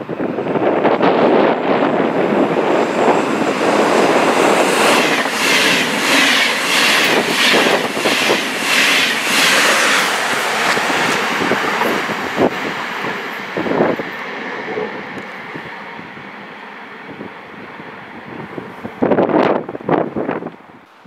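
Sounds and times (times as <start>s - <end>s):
train passing rhythmic rush: 0.0s - 21.0s.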